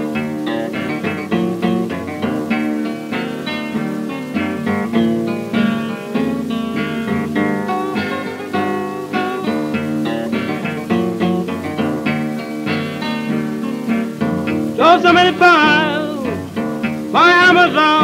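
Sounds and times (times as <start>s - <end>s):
acoustic blues guitar record: 0.0s - 18.0s.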